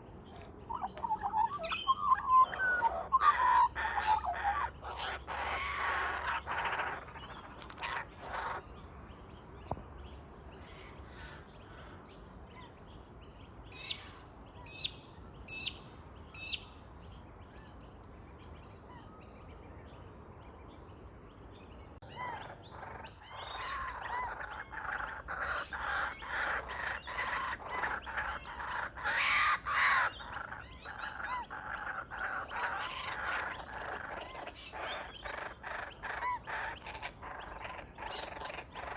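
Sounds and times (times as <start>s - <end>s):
birds calling: 0.0s - 38.9s.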